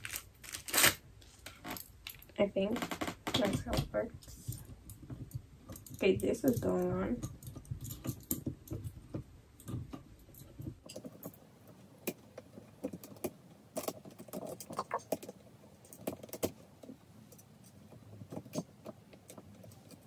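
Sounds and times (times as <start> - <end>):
plastic parts clicking and rattling: 0.0 - 20.0.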